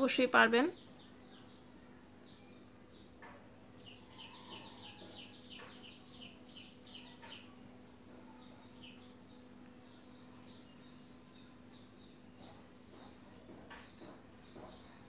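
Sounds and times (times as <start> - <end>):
bird chirping: 0.6 - 15.0.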